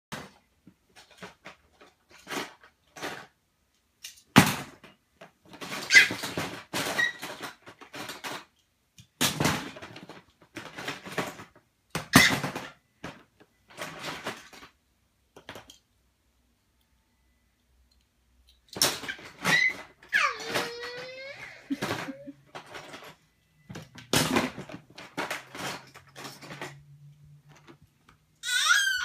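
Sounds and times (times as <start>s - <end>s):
toy cars clattering in plastic bin: 0.1s - 3.4s, 4.0s - 14.8s, 18.7s - 29.0s.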